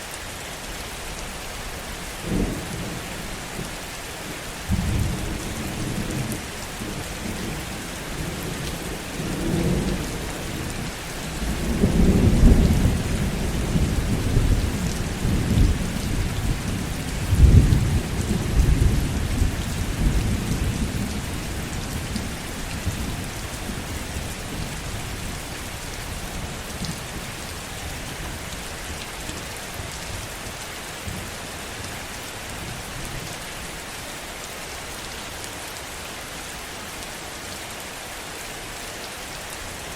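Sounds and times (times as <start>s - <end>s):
heavy steady rain: 0.0s - 39.9s.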